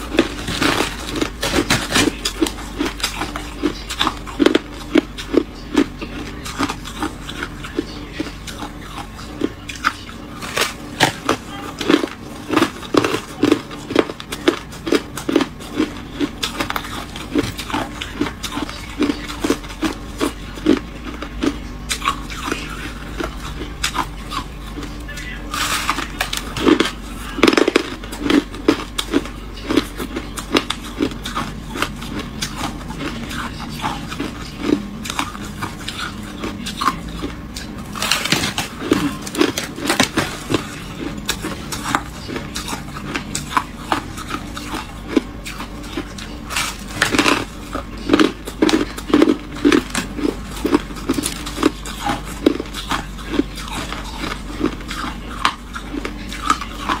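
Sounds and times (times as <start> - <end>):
ice crunching being chewed: 0.0 - 57.0.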